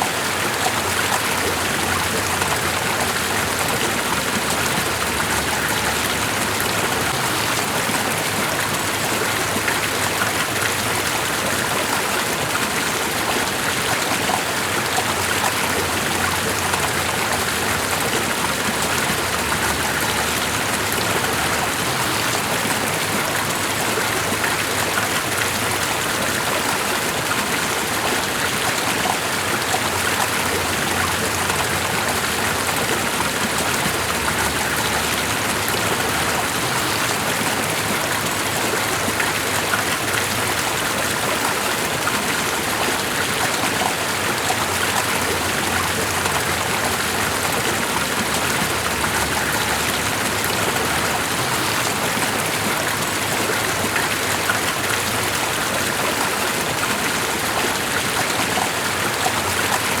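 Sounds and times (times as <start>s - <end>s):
rushing water: 0.0s - 60.0s.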